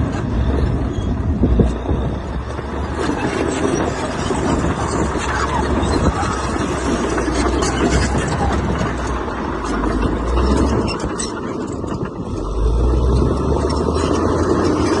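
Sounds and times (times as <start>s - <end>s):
diesel engine rumbling under load: 0.0s - 15.0s.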